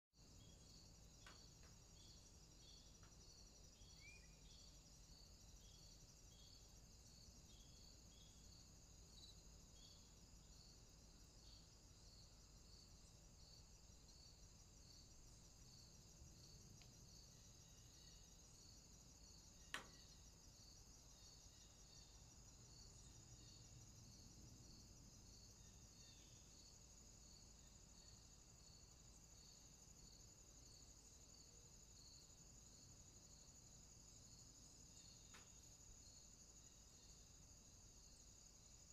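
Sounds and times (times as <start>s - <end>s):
faint insect chirping: 0.2s - 38.9s.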